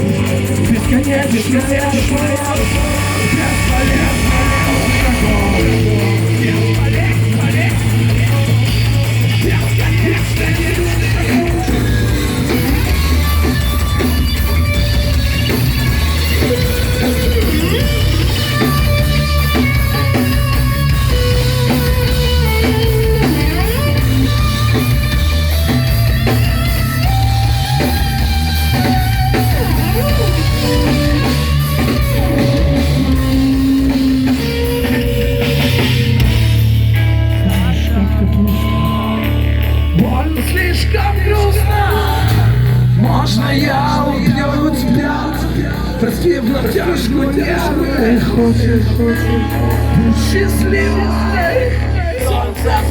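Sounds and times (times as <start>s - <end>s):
heavy rock band instrumental: 0.0s - 52.9s.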